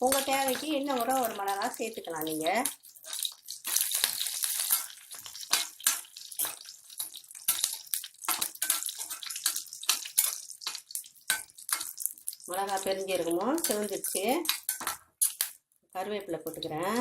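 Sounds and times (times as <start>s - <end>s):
crackles and pops: 0.0s - 17.0s
spices sizzling in hot oil: 0.0s - 17.0s.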